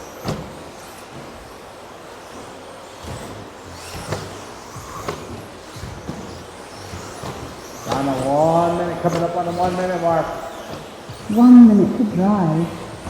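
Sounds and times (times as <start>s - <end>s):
electric motors and tyres hissing: 0.0s - 13.0s.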